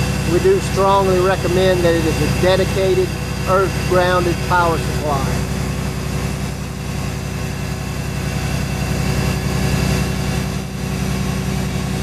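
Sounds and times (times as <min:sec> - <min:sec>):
industrial machinery hum: 0:00.0 - 0:12.0.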